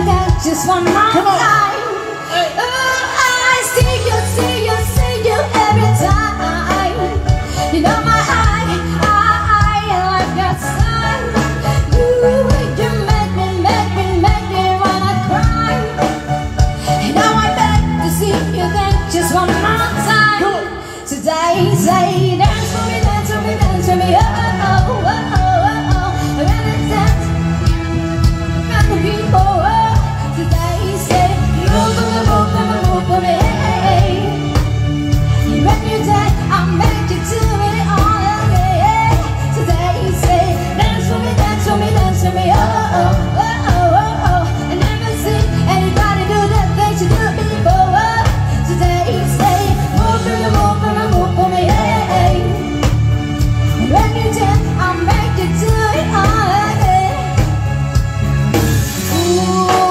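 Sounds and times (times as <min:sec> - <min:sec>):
live band playing pop song: 0:00.0 - 0:59.9
woman singing lead vocal: 0:00.0 - 0:59.9.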